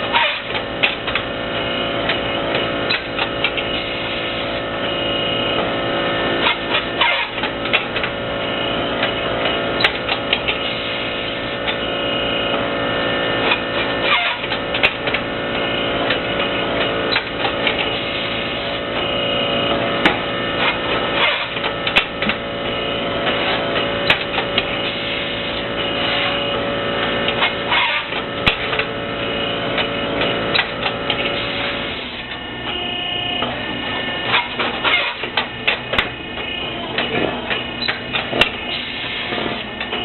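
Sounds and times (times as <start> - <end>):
brick-making machine humming: 0.0 - 40.0.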